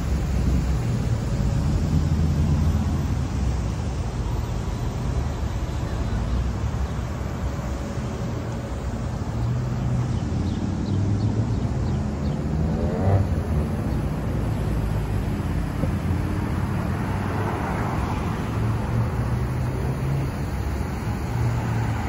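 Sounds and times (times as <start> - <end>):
rumble of passing cars: 0.0 - 22.0.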